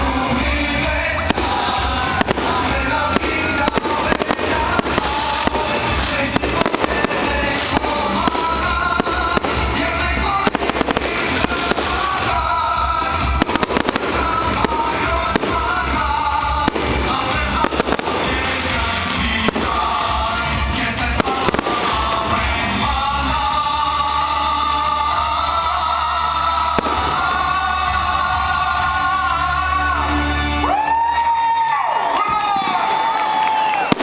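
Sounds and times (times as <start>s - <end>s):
fireworks bangs: 0.0s - 29.4s, 32.3s - 34.0s
loud music with singing: 0.0s - 31.2s.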